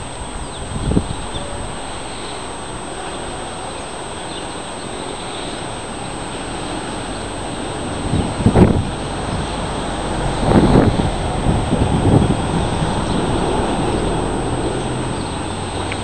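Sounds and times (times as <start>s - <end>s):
gusty wind blowing: 0.0s - 16.0s
wind buffeting microphone: 0.0s - 16.0s.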